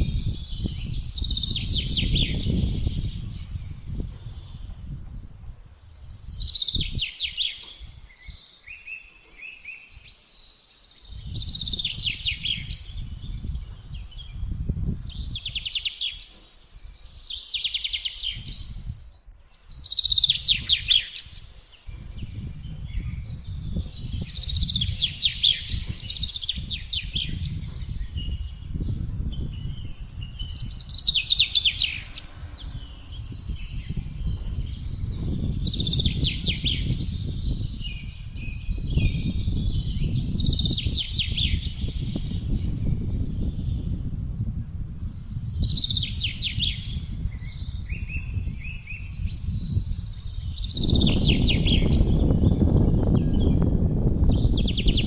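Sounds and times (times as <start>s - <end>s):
songbird trilling: 0.0s - 5.3s, 6.0s - 55.0s
wind gusts rumbling: 0.0s - 8.5s, 11.0s - 55.0s.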